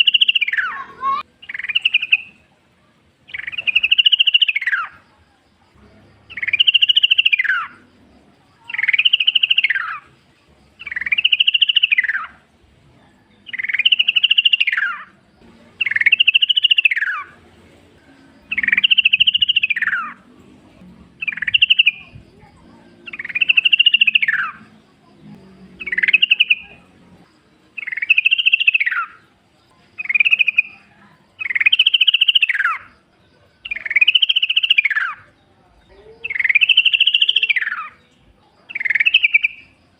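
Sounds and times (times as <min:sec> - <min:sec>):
bulbul calling: 0:00.0 - 0:02.5, 0:03.2 - 0:05.0, 0:06.3 - 0:07.9, 0:08.6 - 0:10.1, 0:10.8 - 0:12.5, 0:13.2 - 0:17.4, 0:18.0 - 0:20.3, 0:21.1 - 0:27.0, 0:27.7 - 0:29.3, 0:29.9 - 0:39.8.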